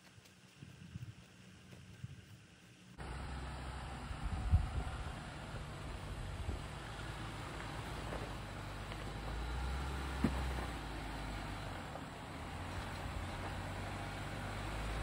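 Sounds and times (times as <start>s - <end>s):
engine running low: 0.0s - 15.0s.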